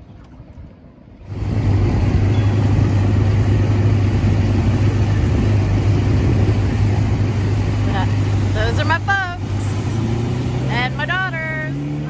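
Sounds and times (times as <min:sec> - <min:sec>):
motorboat engines running: 0:00.0 - 0:12.0
rush of wind and water: 0:00.0 - 0:12.0.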